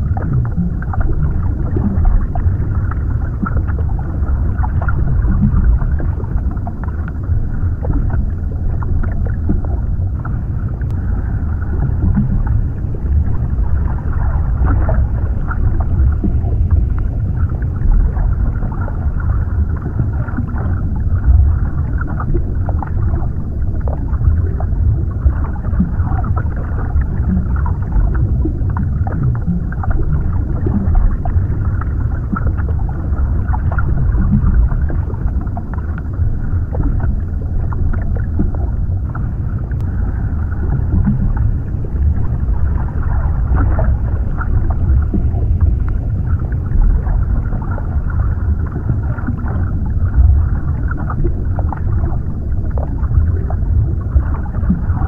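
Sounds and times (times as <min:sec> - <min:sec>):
faint crackles and gurgles: 0:00.0 - 0:55.0
muffled underwater rumble: 0:00.0 - 0:55.0.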